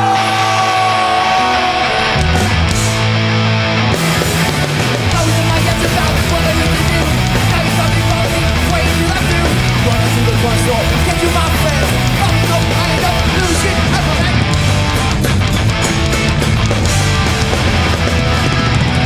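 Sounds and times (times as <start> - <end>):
punk band playing live: 0.0 - 19.0.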